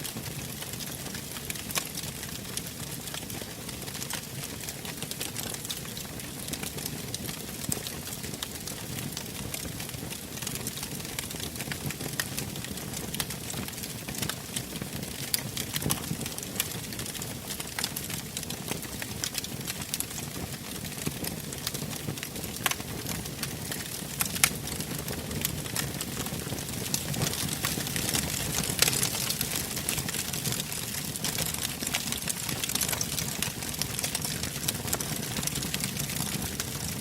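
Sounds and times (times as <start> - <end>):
fire crackling and popping: 0.0 - 37.0
low rumble of flames: 0.1 - 37.0.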